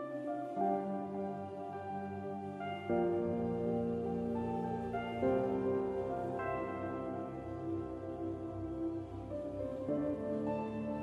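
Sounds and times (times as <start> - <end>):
ambient music with held chords: 0.0 - 11.0.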